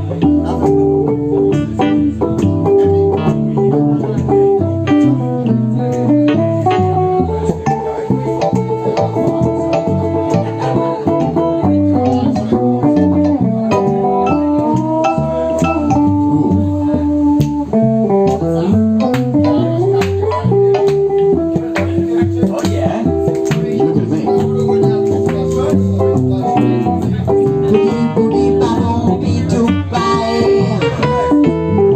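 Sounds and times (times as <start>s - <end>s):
drums: 0.0s - 31.9s
electric bass: 0.0s - 31.9s
sliding held melody notes: 0.0s - 31.9s.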